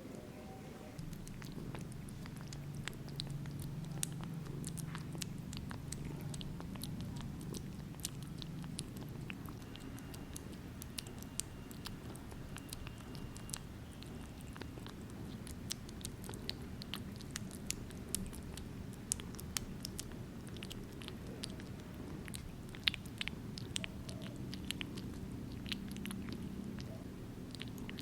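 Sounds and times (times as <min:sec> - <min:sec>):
low steady hum: 0:00.0 - 0:28.0
kitten chewing and licking: 0:00.9 - 0:28.0.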